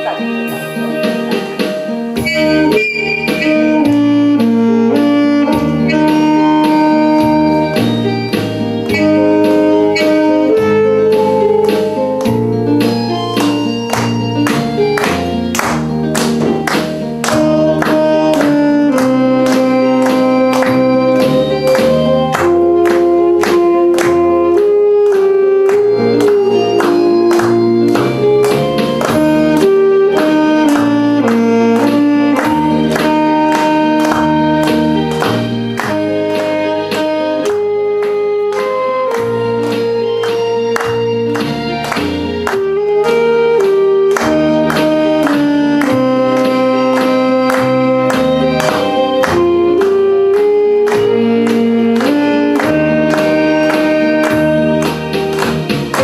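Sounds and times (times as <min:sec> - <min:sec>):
backing track with steady beat: 0:00.0 - 0:56.0
saxophone playing melody: 0:00.0 - 0:56.0.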